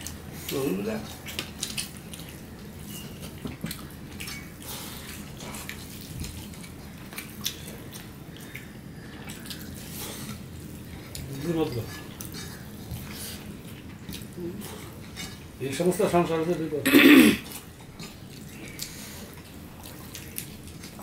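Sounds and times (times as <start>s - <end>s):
chewing: 0.0s - 15.6s, 17.4s - 21.0s.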